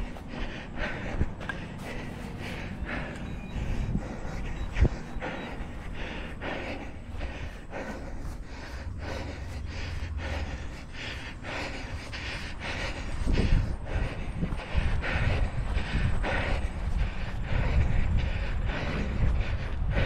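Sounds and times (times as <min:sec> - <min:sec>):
low rumble: 0:00.0 - 0:20.0
runner panting: 0:00.0 - 0:20.0.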